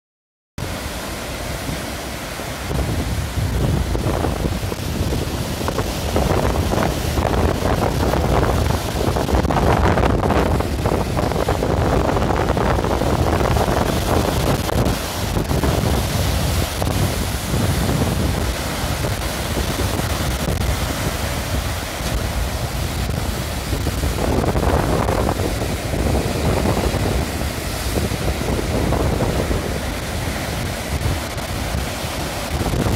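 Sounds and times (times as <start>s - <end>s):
surf breaking on shore: 0.6s - 32.9s
wind buffeting microphone: 0.7s - 32.9s.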